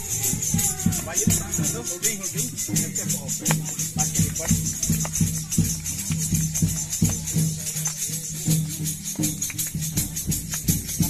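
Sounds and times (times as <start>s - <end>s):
drum beating steady rhythm: 0.0s - 11.0s
metal percussion jingling: 0.0s - 11.0s.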